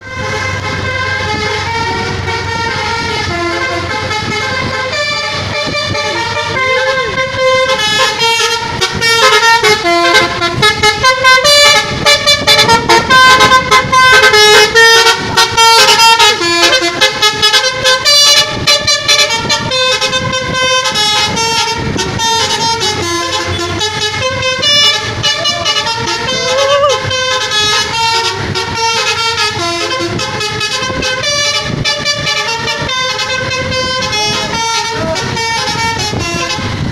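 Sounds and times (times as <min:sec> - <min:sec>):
bus musical horn: 0:00.0 - 0:36.9.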